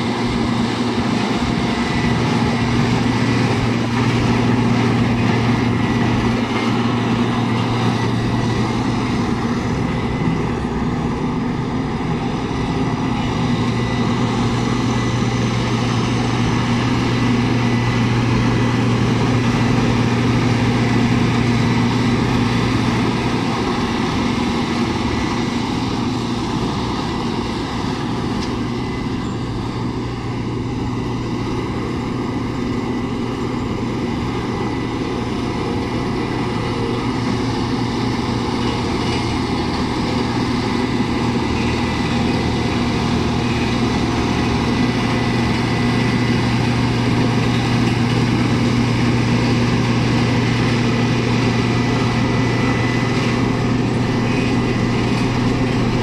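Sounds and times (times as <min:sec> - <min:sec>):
diesel engine of road roller: 0:00.0 - 0:56.0.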